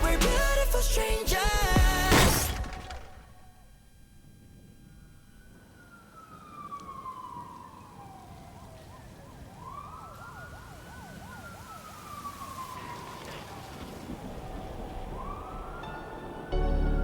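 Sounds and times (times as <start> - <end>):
siren wailing and yelping: 2.8 - 17.0.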